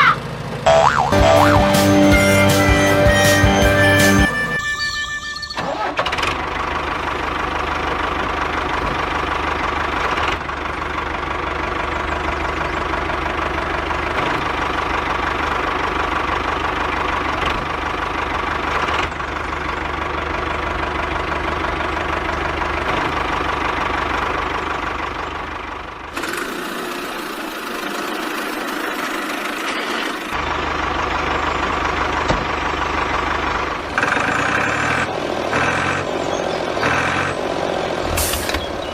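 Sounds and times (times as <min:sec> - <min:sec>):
diesel engine knocking clatter: 0:06.2 - 0:38.9.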